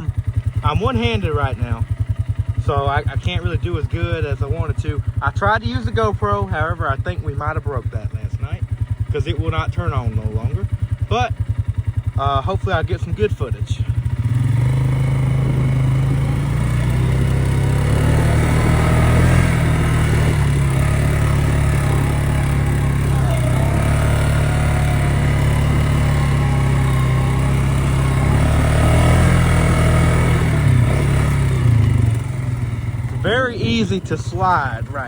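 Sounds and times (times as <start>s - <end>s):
atv engine droning: 0.0s - 35.0s.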